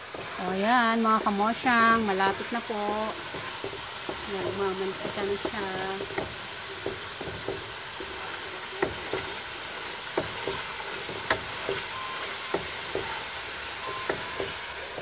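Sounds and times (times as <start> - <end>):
coconut milk sizzling in a wok: 0.0 - 15.0.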